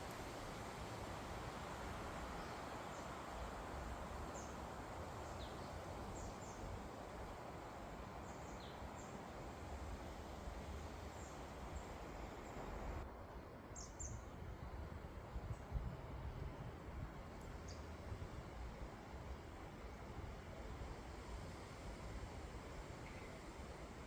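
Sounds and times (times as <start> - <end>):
strong wind rushing through trees: 0.0 - 24.0.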